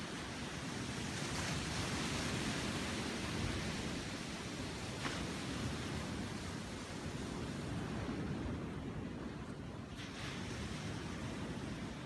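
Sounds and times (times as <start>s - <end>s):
sea waves washing onto shore: 0.0s - 12.0s.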